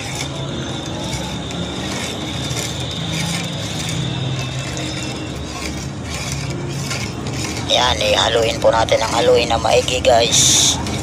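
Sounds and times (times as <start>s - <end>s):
liquid swirling: 0.0s - 9.3s.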